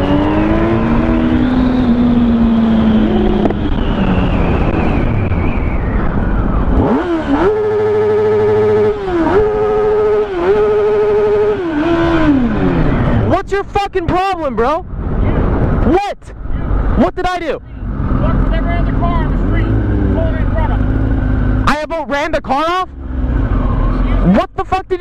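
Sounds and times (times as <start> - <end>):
motorcycle engine revving: 0.0 - 13.5, 17.6 - 24.5
wind noise: 0.0 - 21.7.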